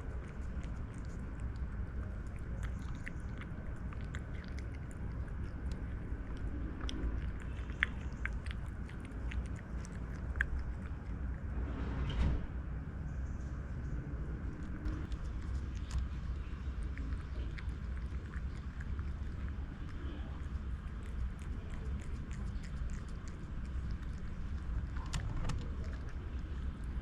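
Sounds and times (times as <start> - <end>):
cat chewing food: 0.0 - 11.7, 14.4 - 27.0
low rumble: 0.0 - 27.0.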